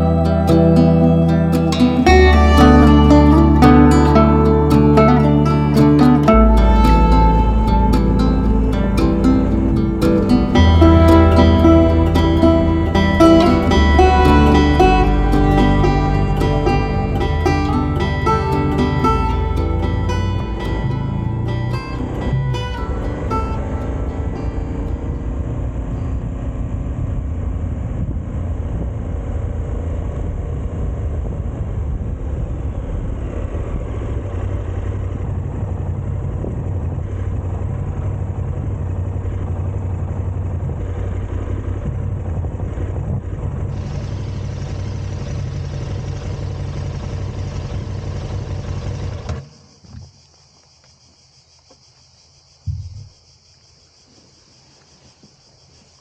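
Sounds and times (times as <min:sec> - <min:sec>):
motorcycle engine running: 0:00.0 - 0:49.4.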